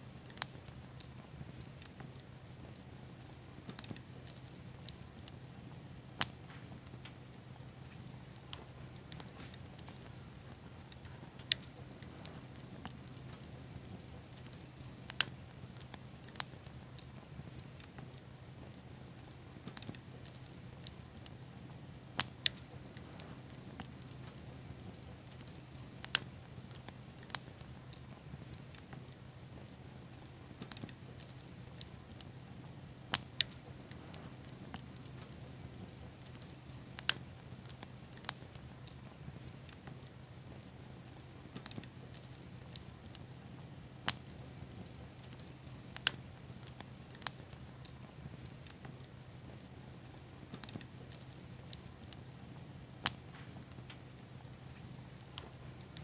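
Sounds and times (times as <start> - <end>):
campfire crackling and popping: 0.0 - 56.0
faint low hum: 0.0 - 56.0.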